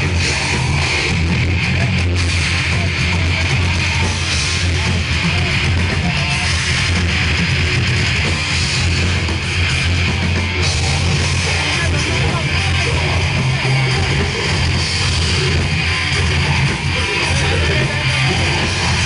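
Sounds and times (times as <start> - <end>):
heavy metal band playing live: 0.0 - 19.0.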